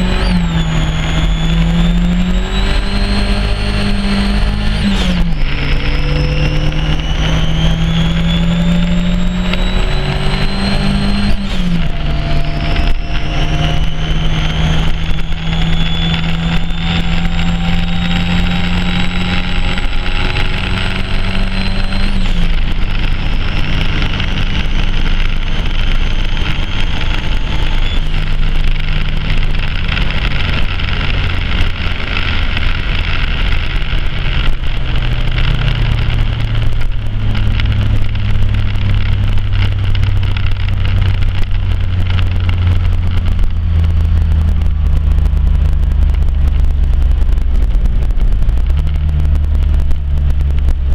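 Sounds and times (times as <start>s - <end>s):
car engine running: 0.0s - 50.9s.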